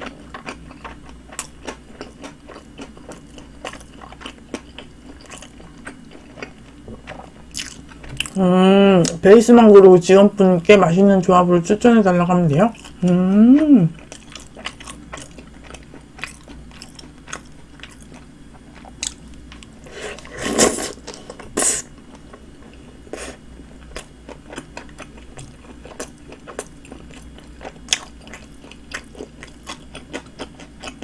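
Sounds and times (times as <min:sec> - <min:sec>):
person chewing sandwich: 0:00.0 - 0:08.4, 0:12.7 - 0:31.0.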